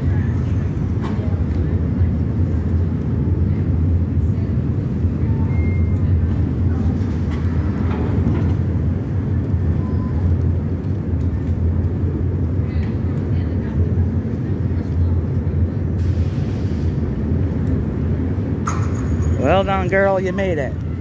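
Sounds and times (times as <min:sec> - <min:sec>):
ferry engines rumbling: 0:00.0 - 0:21.0.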